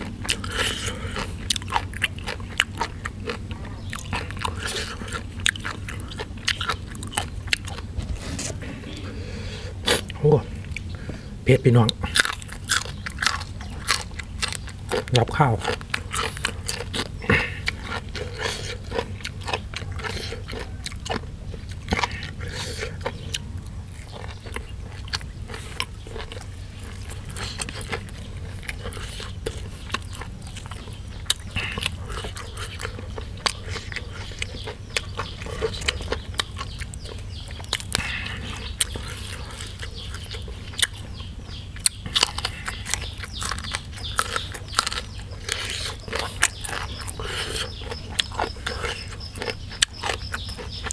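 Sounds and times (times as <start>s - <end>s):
chewing with crisp crunches: 0.0s - 50.9s
steady low hum: 0.0s - 50.9s.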